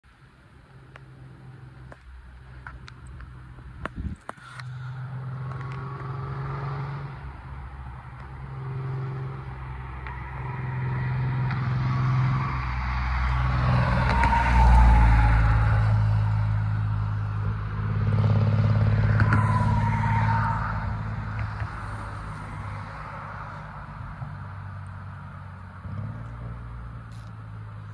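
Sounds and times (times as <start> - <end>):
road traffic hum: 0.0 - 27.9
car passing: 0.7 - 27.9.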